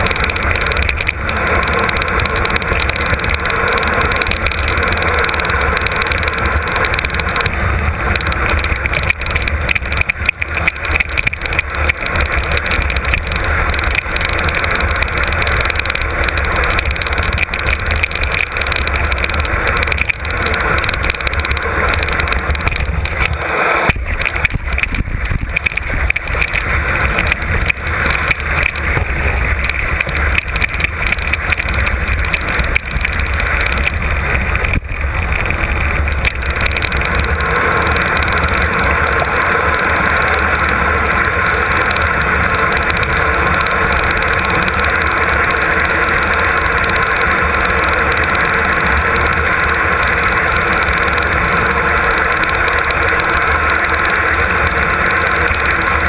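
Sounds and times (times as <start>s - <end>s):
mountain bike rattling on rough trail: 0.0s - 56.0s
wind on microphone: 0.0s - 56.0s.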